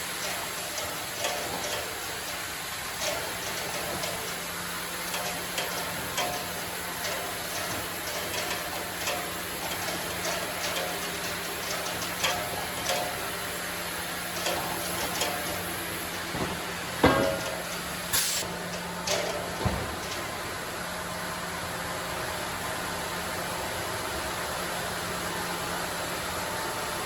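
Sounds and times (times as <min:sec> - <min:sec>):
sawmill machinery humming: 0:00.0 - 0:27.0.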